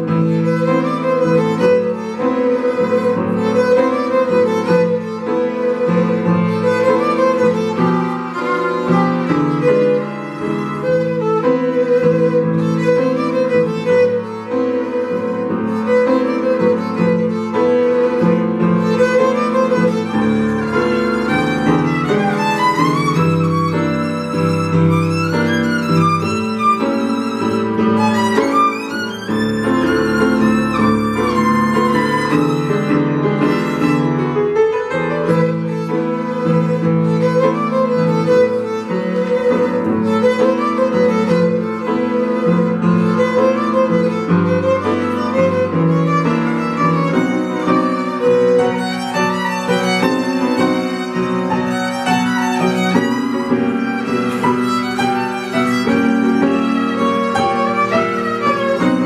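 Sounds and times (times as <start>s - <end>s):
upright piano: 0.0s - 59.0s
violin played with bow: 0.0s - 59.0s.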